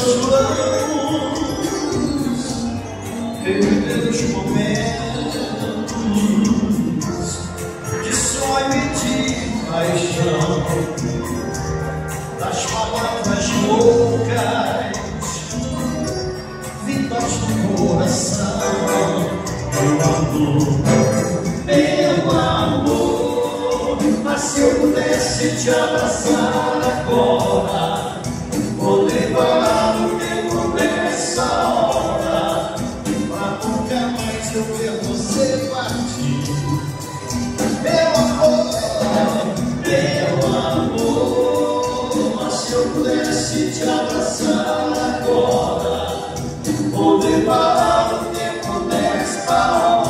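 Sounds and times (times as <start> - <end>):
person singing: 0.0 - 11.6, 12.3 - 50.0
live dance band playing: 0.0 - 50.0.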